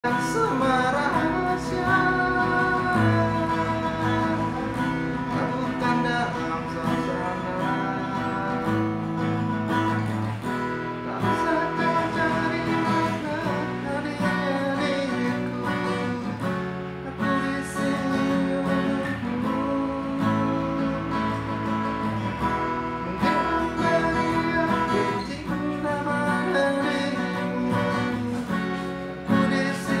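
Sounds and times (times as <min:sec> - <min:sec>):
man singing: 0:00.0 - 0:30.0
strummed acoustic guitar: 0:00.0 - 0:30.0.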